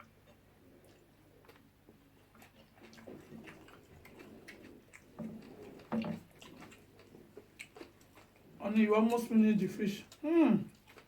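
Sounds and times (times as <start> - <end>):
chewing mouth noises: 0.0 - 8.6, 10.0 - 11.0.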